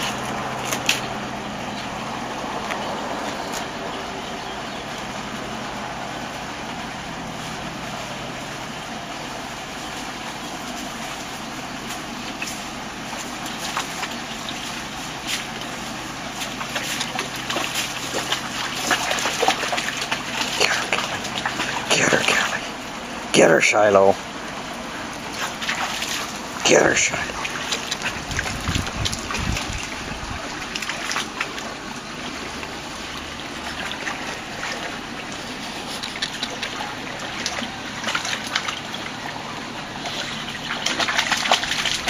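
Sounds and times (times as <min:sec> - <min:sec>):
dogs splashing through water: 0:00.0 - 0:42.0
water rushing: 0:00.0 - 0:42.0.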